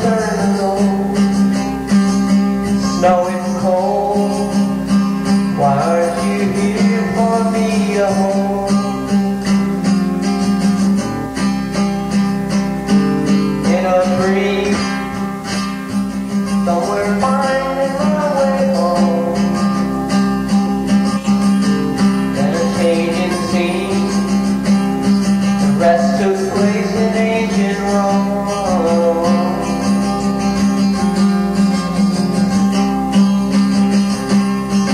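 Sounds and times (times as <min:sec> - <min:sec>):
strummed guitar music: 0:00.0 - 0:34.9.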